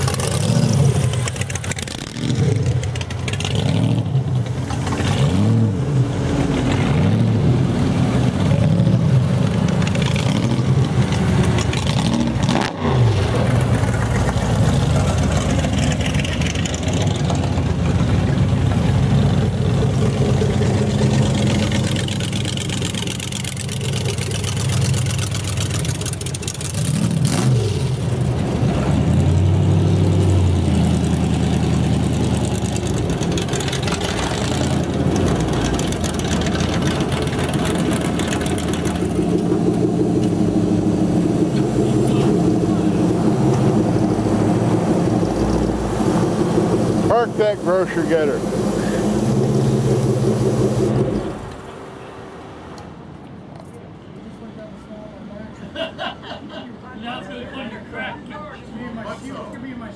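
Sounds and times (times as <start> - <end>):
car engines revving past: 0.0 - 53.1.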